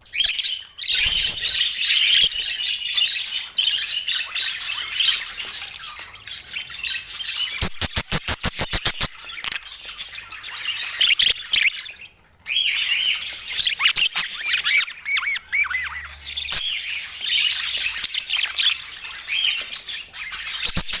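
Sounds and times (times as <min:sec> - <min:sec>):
budgerigars chattering and squawking: 0:00.1 - 0:21.0.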